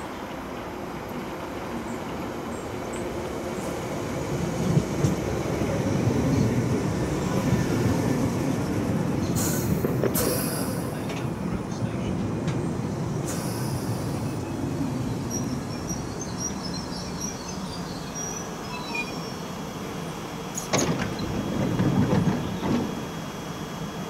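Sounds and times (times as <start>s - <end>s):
train sliding doors closing: 0.0s - 23.9s
train equipment low rumble: 0.0s - 24.0s.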